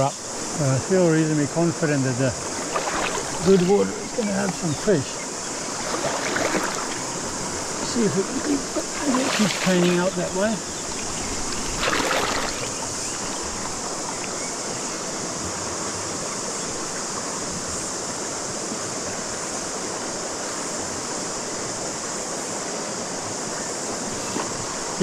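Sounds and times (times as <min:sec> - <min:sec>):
cicada chorus: 0:00.0 - 0:25.0
river water rushing: 0:00.0 - 0:25.0.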